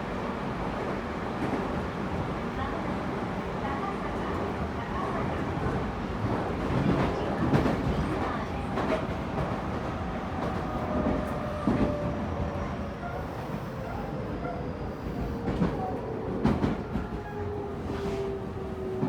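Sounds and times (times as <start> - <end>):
train rumble: 0.9 - 19.0.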